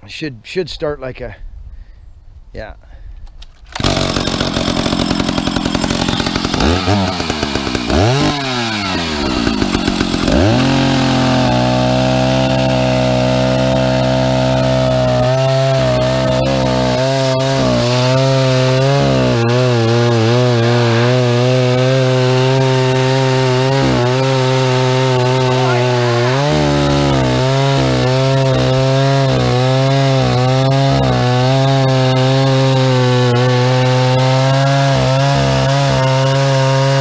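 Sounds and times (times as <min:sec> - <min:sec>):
chainsaw revving and cutting wood: 0:03.7 - 0:37.0.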